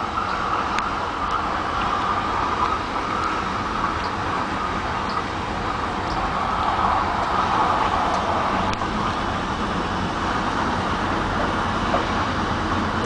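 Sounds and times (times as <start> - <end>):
train running inside carriage: 0.0 - 13.0.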